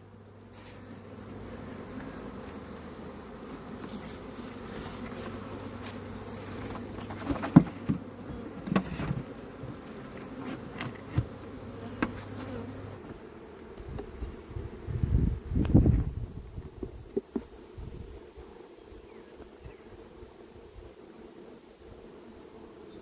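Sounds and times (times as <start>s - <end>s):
bee swarm buzzing: 0.0s - 23.0s.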